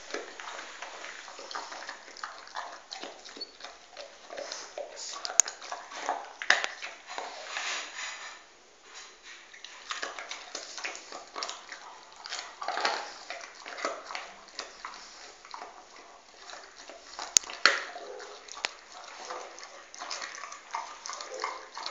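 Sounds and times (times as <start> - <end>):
dog chewing on a bone: 0.0 - 8.4, 9.1 - 21.9.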